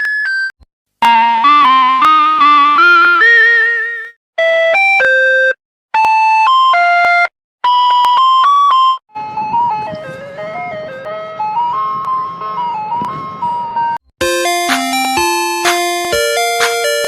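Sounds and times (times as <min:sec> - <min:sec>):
electronic ice cream truck jingle: 0:00.0 - 0:17.0.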